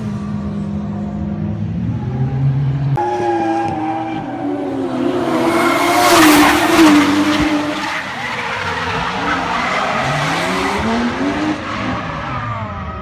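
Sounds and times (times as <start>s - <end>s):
car engine revving: 0.0s - 12.6s
tyres skidding: 0.0s - 13.0s.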